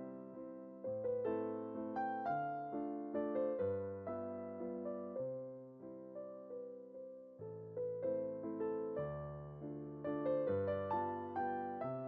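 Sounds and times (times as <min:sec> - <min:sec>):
solo piano piece: 0:00.0 - 0:12.0.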